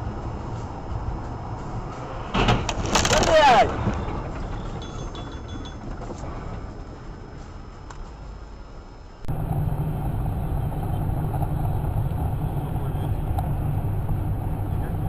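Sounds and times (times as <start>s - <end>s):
car road and engine noise: 0.0s - 15.0s
deep rumble: 0.0s - 15.0s.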